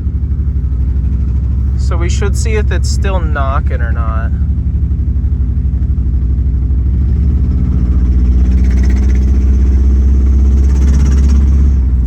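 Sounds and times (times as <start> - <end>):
car engine with low exhaust rumble: 0.0 - 12.0.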